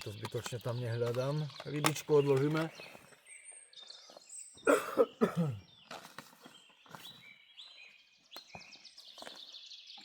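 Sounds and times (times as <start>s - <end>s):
songbirds singing and chirping: 0.0s - 10.0s.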